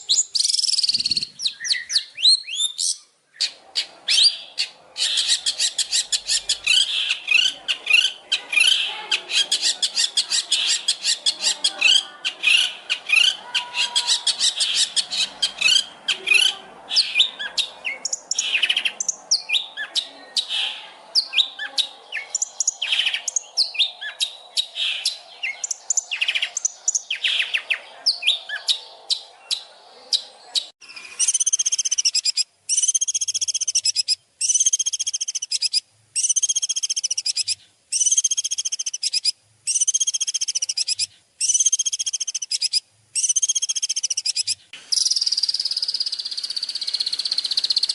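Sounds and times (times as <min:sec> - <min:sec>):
songbird chirping and trilling: 0:00.0 - 0:47.9.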